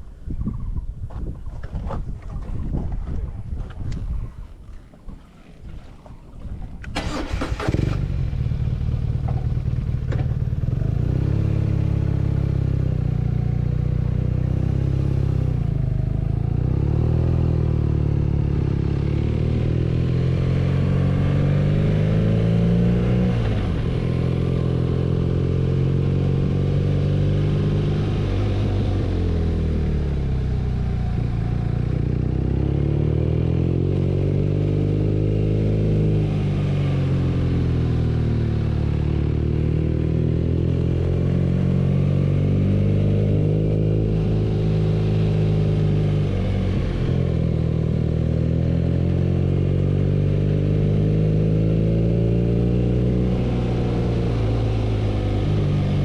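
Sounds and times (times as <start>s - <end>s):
motorcycle engine revving through gears: 6.2s - 56.0s.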